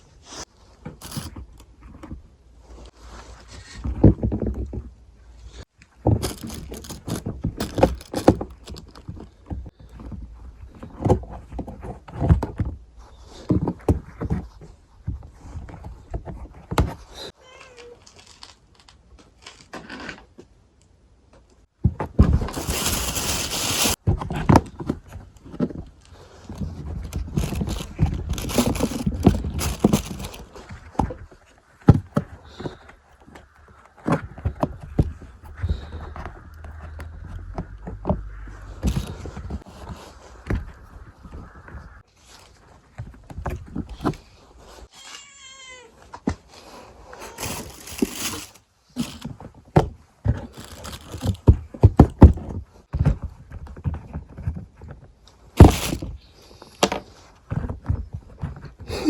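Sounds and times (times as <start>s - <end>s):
objects thudding and scraping: 0.2s - 17.3s, 21.8s - 44.9s, 46.2s - 58.9s.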